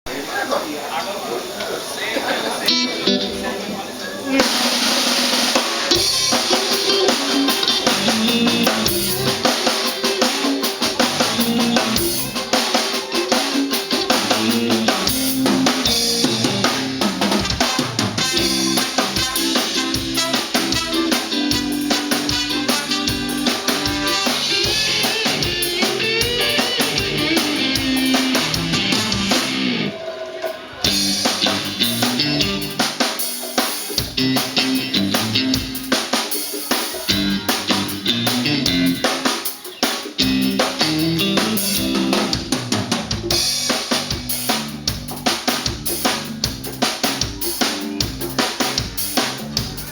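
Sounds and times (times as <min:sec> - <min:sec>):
electric guitar: 0:02.6 - 0:49.9
drum kit fast beat: 0:04.3 - 0:49.9.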